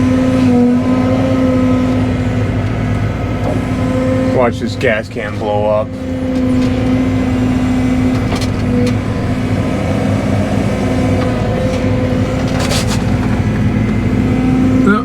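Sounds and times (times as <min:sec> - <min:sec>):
excavator engine and hydraulics hum: 0:00.0 - 0:15.0.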